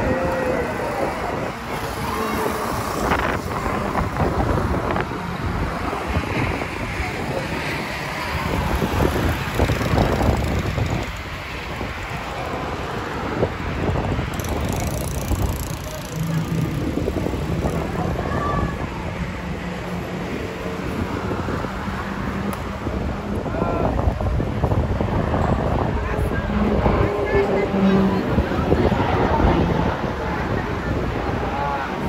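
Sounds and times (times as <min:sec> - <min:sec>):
road traffic noise: 0:00.0 - 0:32.0
wind buffeting microphone: 0:00.0 - 0:32.0.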